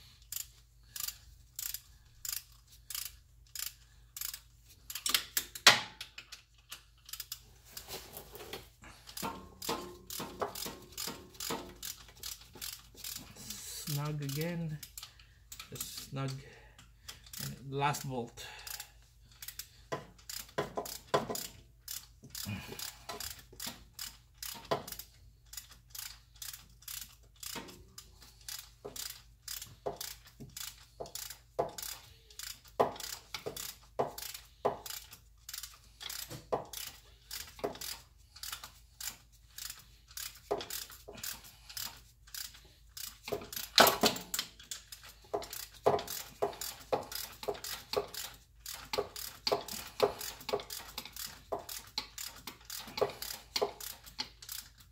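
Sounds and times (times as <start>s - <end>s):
socket ratchet clicking: 0.2s - 7.4s, 9.1s - 17.6s, 18.7s - 54.9s.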